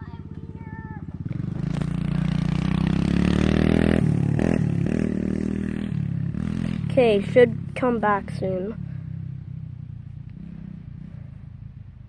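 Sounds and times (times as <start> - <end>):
dirt bike engine revving: 0.3 - 11.7.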